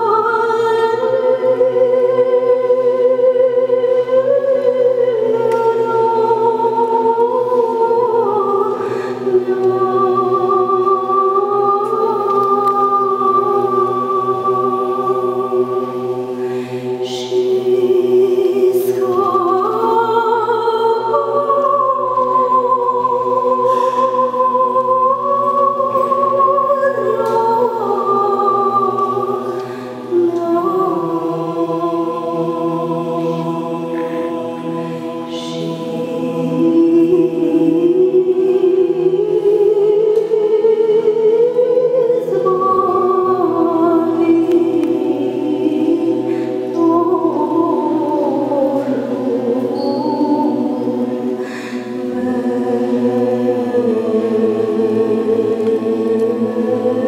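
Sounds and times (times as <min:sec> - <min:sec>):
choir singing: 0:00.0 - 0:57.0
woman singing a hymn: 0:00.0 - 0:57.0.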